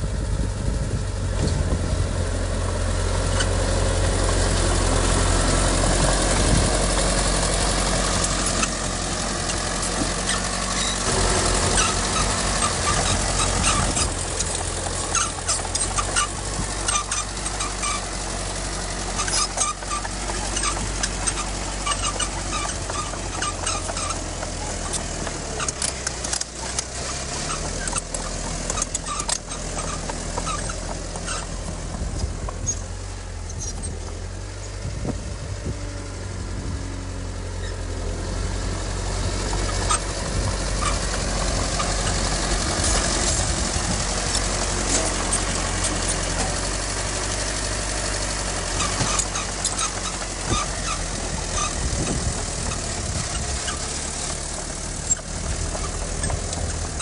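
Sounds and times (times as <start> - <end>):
heavy machinery diesel engine running: 0.0 - 57.0.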